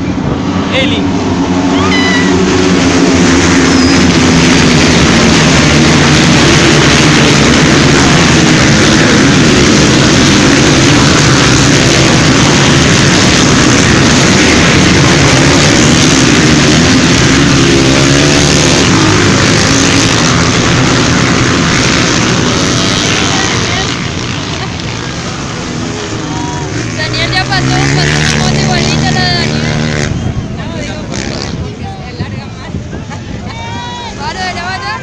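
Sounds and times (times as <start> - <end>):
motorcycles passing at full throttle: 0.0 - 35.0.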